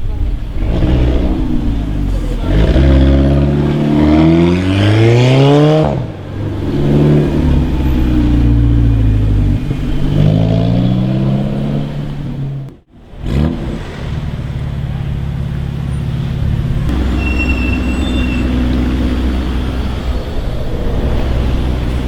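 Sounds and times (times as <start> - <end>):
car engine accelerating hard: 0.3 - 22.0.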